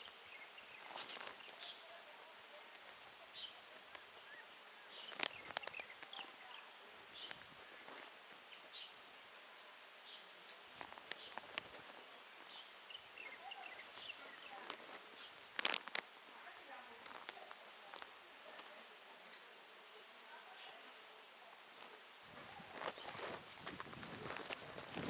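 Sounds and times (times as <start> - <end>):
small birds chirping: 0.0 - 25.0
steady high insect drone: 0.0 - 25.0.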